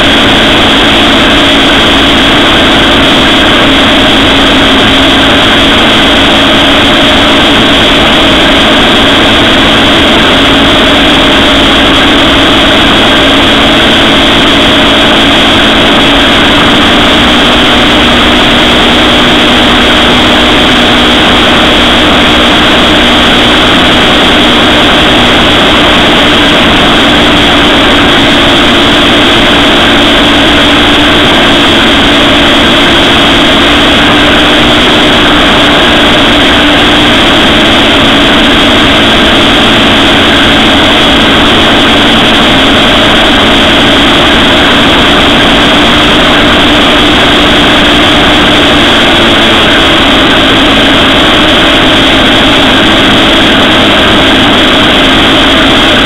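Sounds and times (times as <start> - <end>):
aircraft engine and propeller: 0.0 - 56.0
wind noise on microphone: 0.0 - 56.0.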